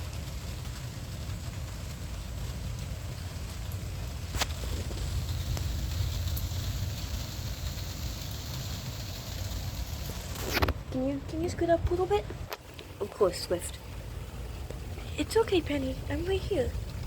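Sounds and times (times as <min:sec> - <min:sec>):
steady rain: 0:00.0 - 0:17.0
wind rumbling on microphone: 0:00.0 - 0:17.0.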